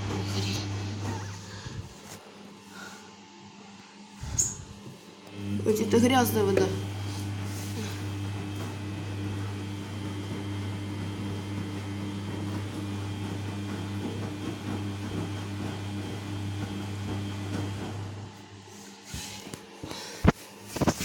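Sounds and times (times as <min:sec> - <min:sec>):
washing machine drain pump humming: 0:00.0 - 0:03.0, 0:04.2 - 0:21.0.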